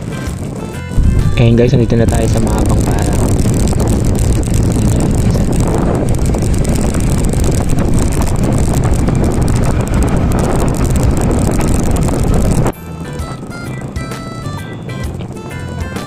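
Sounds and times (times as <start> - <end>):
motorbike engine: 0.0 - 16.0
wind buffeting microphone: 0.0 - 16.0.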